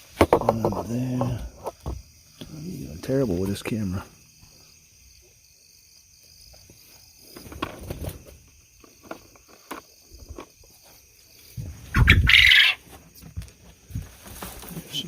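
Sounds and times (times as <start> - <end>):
high insect trill: 0.0 - 15.0.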